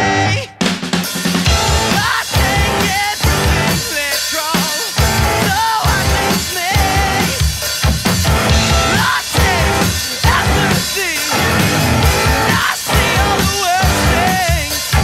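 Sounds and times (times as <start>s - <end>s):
man singing: 0.0s - 0.7s, 1.5s - 7.7s, 8.6s - 15.0s
drum kit beat: 0.0s - 15.0s
electric guitar: 1.5s - 15.0s.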